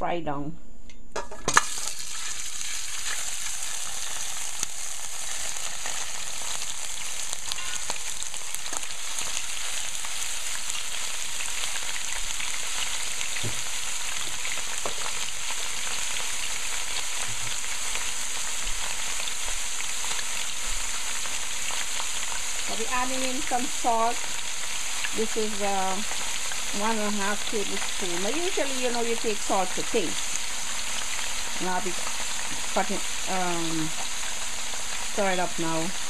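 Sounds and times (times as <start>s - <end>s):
meat sizzling in hot oil: 1.4s - 36.0s.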